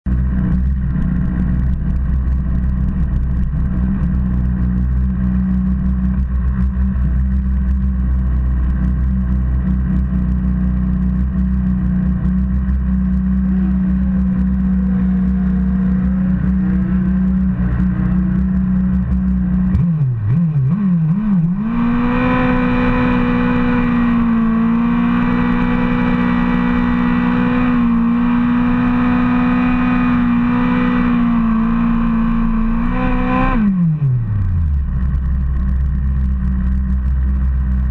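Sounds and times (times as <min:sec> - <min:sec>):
motorcycle throttle blips: 0:00.1 - 0:37.9.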